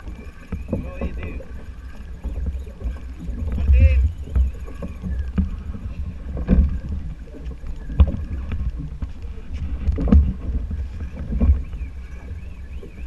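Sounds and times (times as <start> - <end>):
water washing along boat hull: 0.0 - 13.0
wind buffeting microphone: 0.0 - 13.0.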